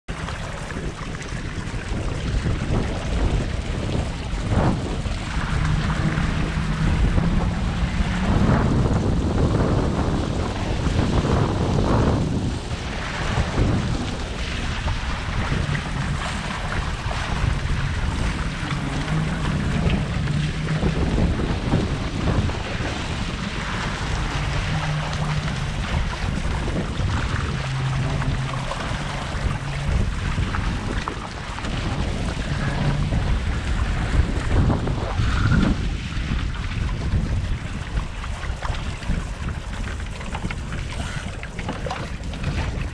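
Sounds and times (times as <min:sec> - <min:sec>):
low hum: 0:00.0 - 0:42.9
water rushing along hulls: 0:00.0 - 0:42.9
wind buffeting microphone: 0:00.0 - 0:42.9.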